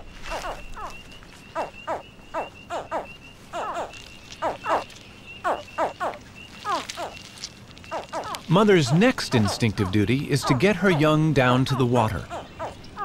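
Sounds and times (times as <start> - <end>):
alligator hatchlings chirping: 0.0 - 13.0.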